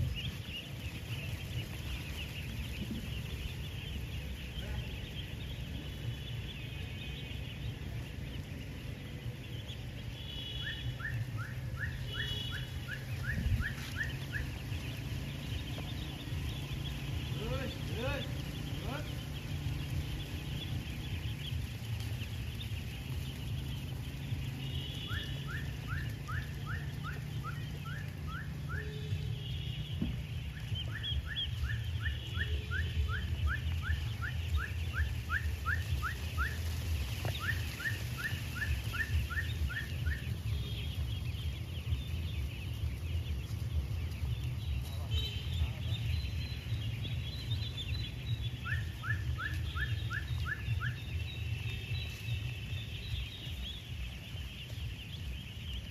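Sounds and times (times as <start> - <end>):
ducklings peeping: 0.0 - 55.9.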